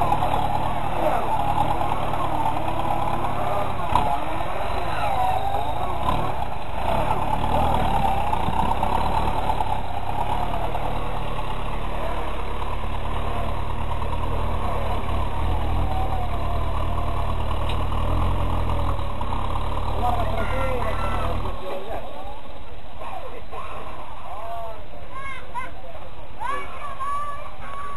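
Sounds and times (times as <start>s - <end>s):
vehicle engine running under load: 0.0s - 27.9s.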